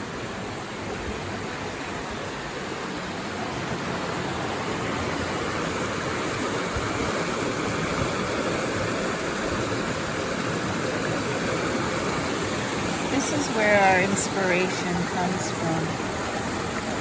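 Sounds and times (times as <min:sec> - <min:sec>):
creek water flowing over rocks: 0:00.0 - 0:17.0.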